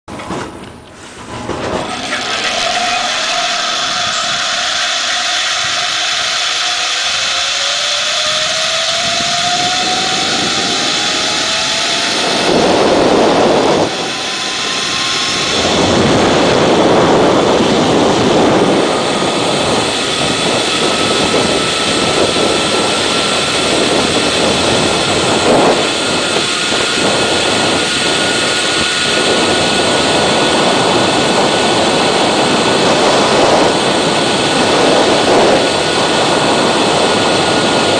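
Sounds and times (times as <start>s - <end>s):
wind rushing on microphone: 0.1s - 37.9s
zip line pulleys whining: 1.4s - 37.9s.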